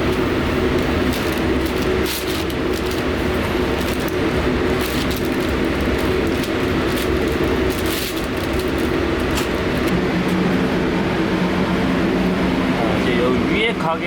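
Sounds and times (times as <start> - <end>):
machinery hum: 0.0 - 14.0.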